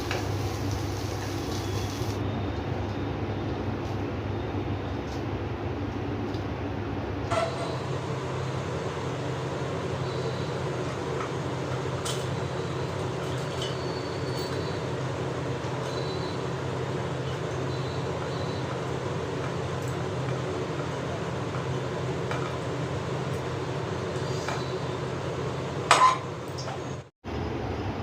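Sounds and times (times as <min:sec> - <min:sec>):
mechanical hum with hiss: 0:00.0 - 0:28.0.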